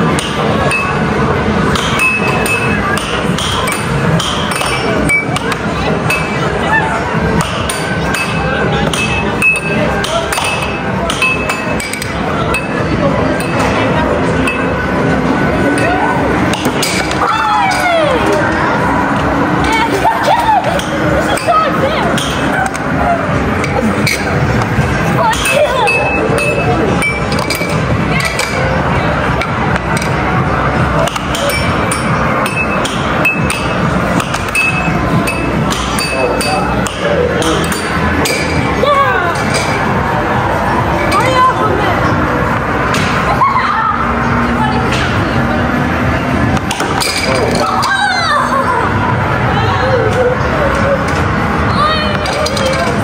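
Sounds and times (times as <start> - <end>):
loud steady background noise: 0.0 - 53.0.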